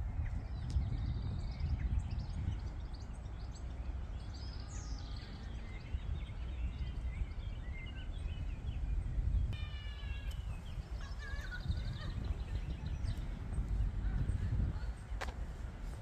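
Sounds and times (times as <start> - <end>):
songbirds singing and calling: 0.0 - 16.0
steady low rumble: 0.0 - 16.0.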